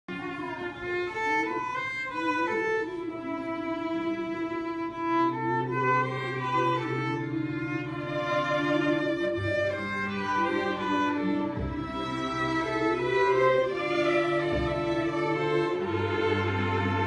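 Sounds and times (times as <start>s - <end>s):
string ensemble playing: 0.1s - 17.0s.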